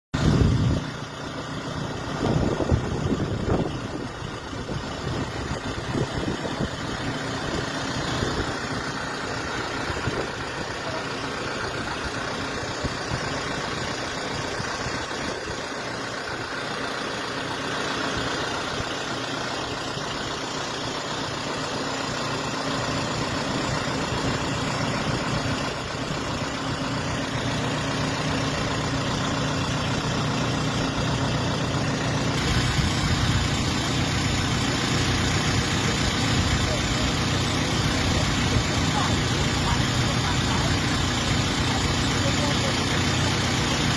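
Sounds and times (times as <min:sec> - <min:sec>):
vehicle engine and road noise: 0:00.1 - 0:43.9.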